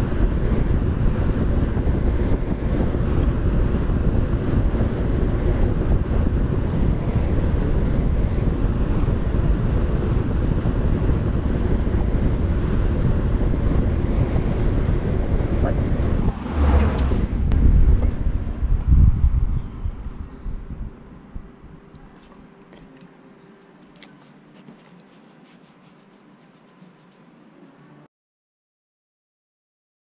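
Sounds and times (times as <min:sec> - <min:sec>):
drum fan blowing air: 0:00.0 - 0:28.1.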